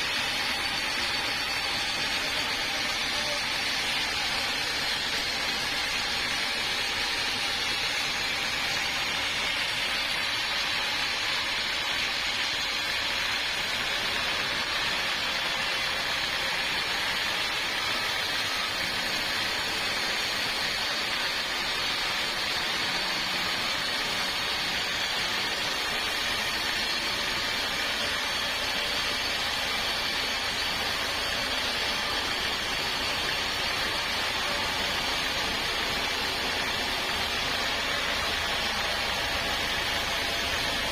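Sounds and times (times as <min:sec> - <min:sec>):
saw cutting through log: 0:00.0 - 0:40.9.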